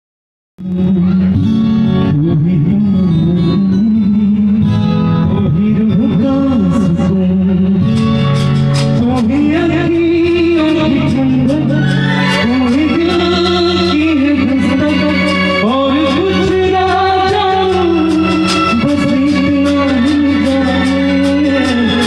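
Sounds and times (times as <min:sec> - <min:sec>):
live instrumental accompaniment: 0:00.6 - 0:22.0
man singing into microphone: 0:00.6 - 0:22.0.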